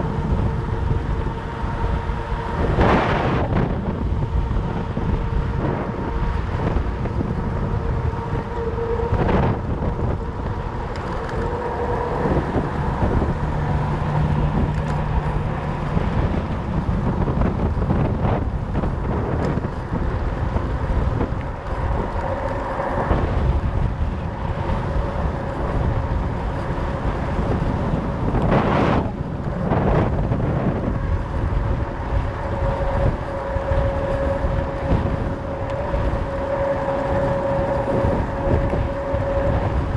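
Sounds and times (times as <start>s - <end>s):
bike tyres rolling: 0.0s - 39.9s
wind buffeting microphone: 0.0s - 39.9s.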